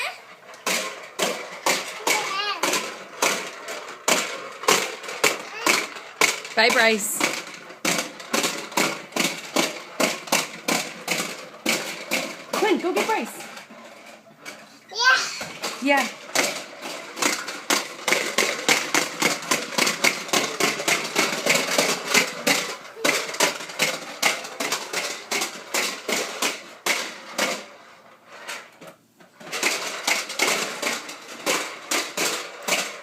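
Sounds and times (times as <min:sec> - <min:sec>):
rapid irregular knocking and clattering: 0:00.5 - 0:14.7, 0:15.4 - 0:27.8.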